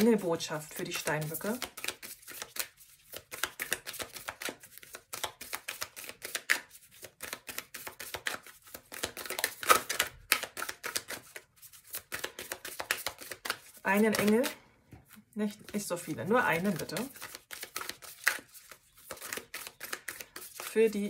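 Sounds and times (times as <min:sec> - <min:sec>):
cards being shuffled: 0:00.0 - 0:21.0.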